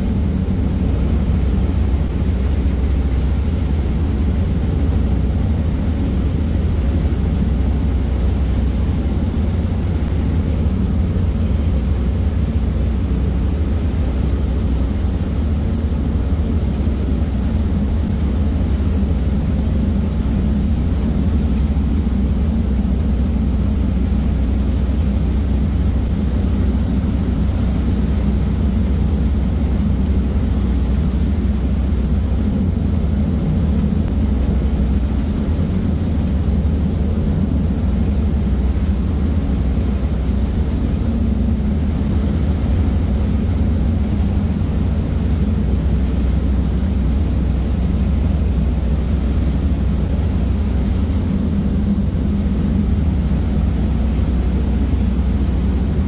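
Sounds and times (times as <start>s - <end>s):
ferry engines droning: 0.0s - 56.0s
propeller wake rushing: 0.0s - 56.0s.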